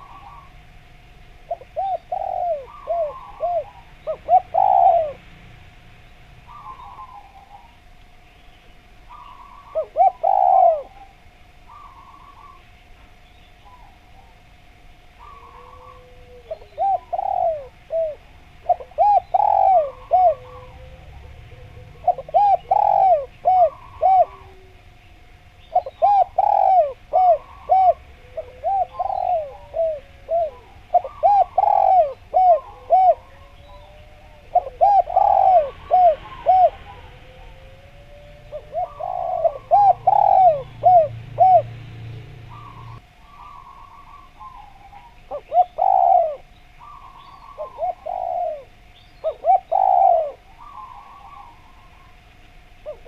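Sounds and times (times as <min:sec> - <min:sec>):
dove cooing: 0:00.0 - 0:00.8, 0:01.4 - 0:05.4, 0:06.4 - 0:08.0, 0:09.0 - 0:12.8, 0:15.1 - 0:53.0.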